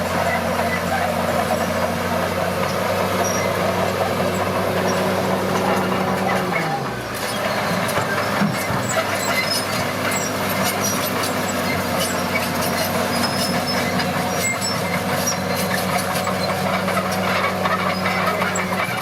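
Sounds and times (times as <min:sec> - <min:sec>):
heavy diesel engine under load: 0:00.0 - 0:19.0
metallic clicks clanks and squeaks: 0:02.6 - 0:19.0.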